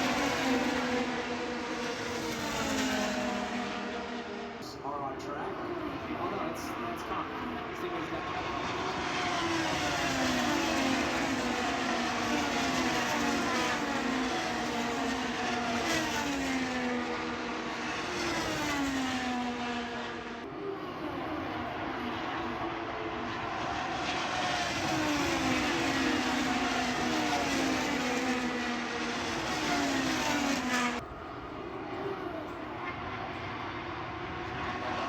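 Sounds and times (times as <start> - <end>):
racing car engines: 0.0 - 35.0.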